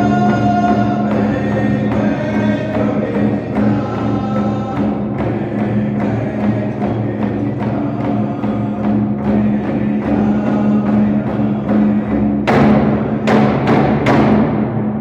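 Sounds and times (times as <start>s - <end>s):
group singing in unison: 0.0s - 14.0s
hard drum strikes ringing: 0.0s - 15.0s
large hand drum beating: 0.0s - 15.0s.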